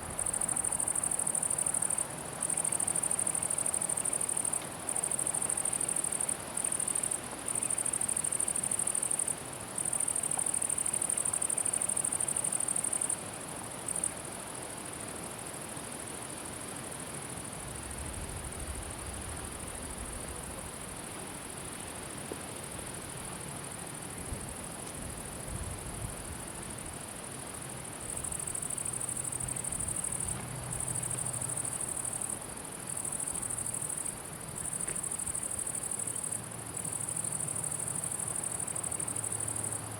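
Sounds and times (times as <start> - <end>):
insect stridulating: 0.0 - 39.9.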